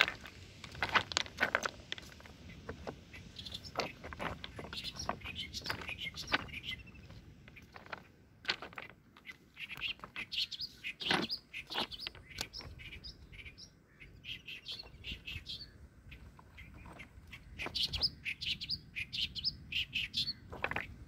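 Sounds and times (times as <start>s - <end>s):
birds chirping: 2.0s - 21.0s.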